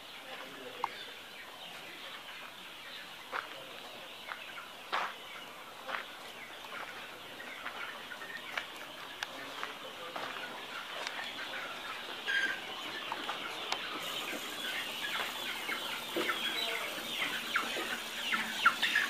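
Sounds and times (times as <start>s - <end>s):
chickens clucking together: 0.3s - 19.0s.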